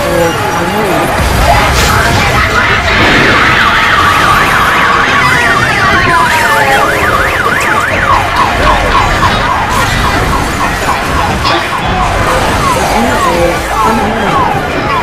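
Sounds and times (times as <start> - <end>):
siren warbling: 0.0 - 15.0
loud rushing noise: 0.3 - 15.0.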